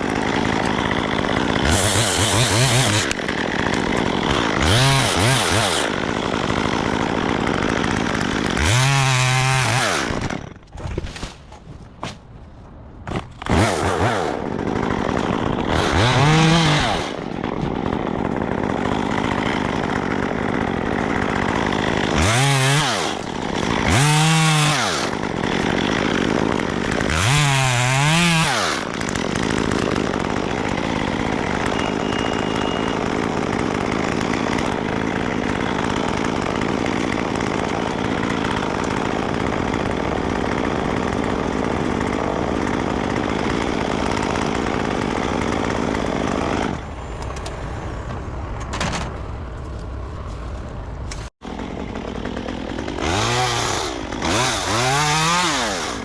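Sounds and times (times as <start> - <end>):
chainsaw engine revving: 0.0 - 10.5, 13.4 - 46.8, 51.4 - 56.0.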